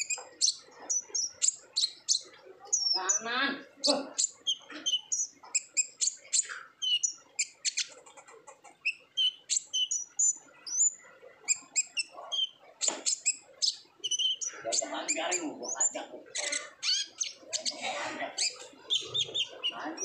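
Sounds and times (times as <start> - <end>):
sunbird singing high chirps: 0.0 - 7.9, 8.8 - 20.0.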